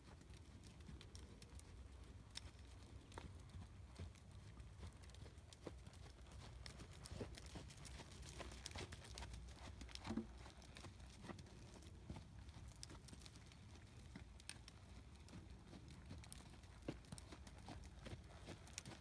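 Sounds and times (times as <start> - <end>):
faint hoofbeats on sand: 0.0 - 19.0.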